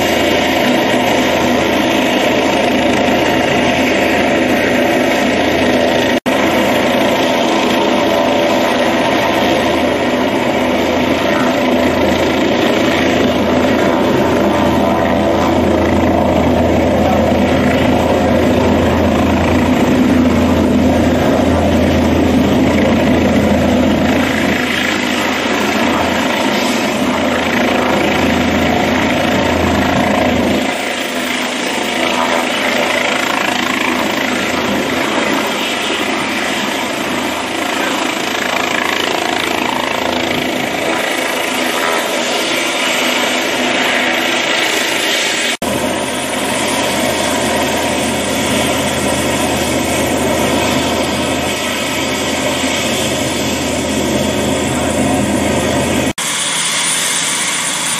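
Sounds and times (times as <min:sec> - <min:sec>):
helicopter engine and rotor noise: 0:00.0 - 0:57.9.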